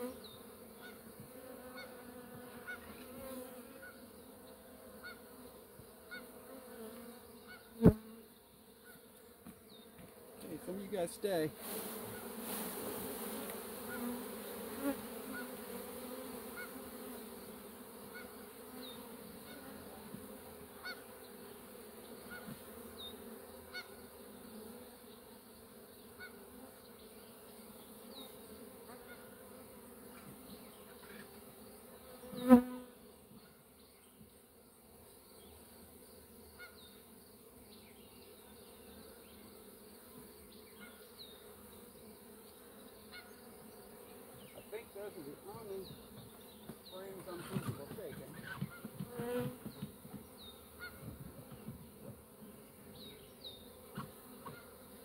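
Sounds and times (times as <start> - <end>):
bee buzzing past: 0.0 - 55.0
honeybees humming: 0.0 - 55.0.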